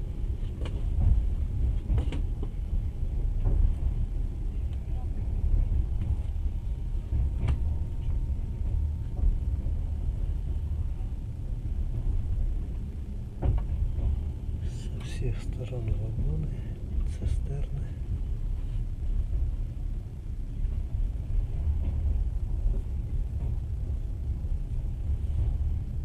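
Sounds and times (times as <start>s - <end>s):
train carriage rumbling on track: 0.0s - 26.0s.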